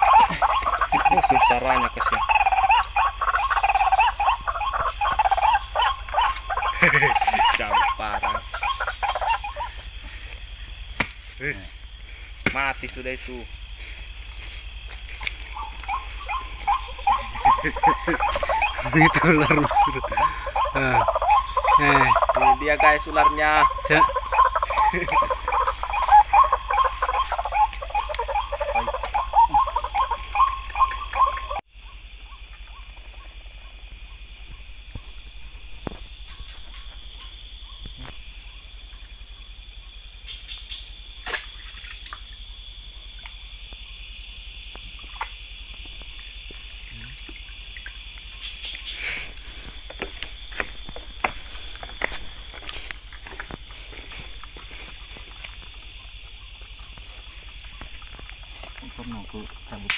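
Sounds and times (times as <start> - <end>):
crickets and insects trilling: 0.0 - 59.9
frogs calling: 0.0 - 59.9.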